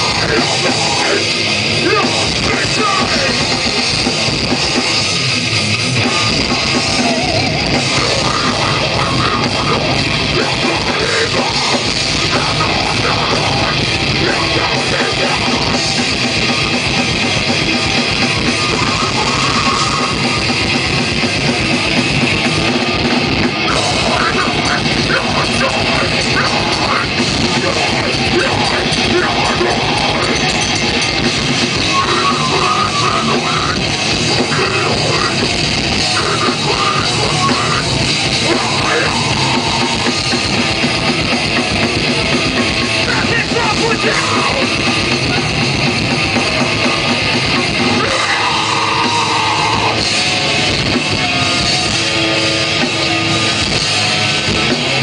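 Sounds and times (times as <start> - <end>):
electric guitar: 0.0 - 55.0
pounding drum kit: 0.0 - 55.0.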